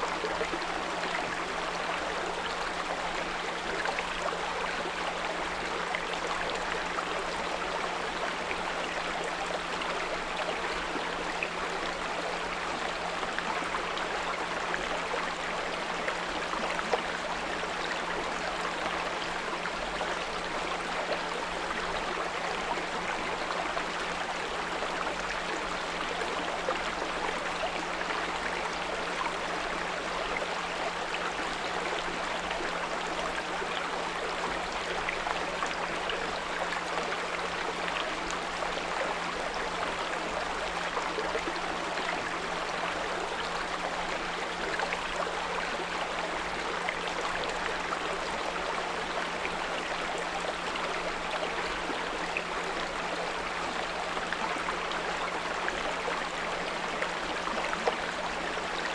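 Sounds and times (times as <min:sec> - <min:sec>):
brook babbling: 0:00.0 - 0:58.9.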